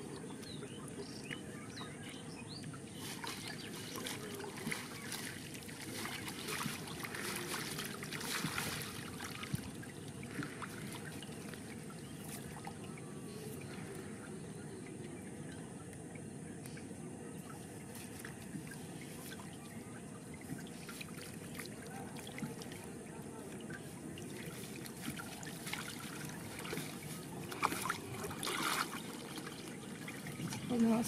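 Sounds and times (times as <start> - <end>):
water trickling and splashing: 0.0 - 31.0.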